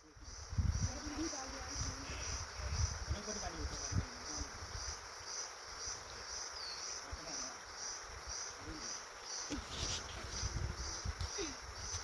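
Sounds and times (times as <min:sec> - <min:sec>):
crickets chirping: 0:00.0 - 0:12.0
high insect drone: 0:00.0 - 0:12.0.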